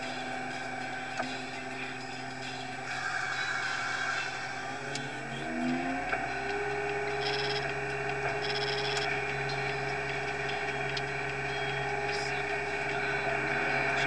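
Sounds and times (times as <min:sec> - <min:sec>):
feed mixer wagon running: 0:02.6 - 0:14.0.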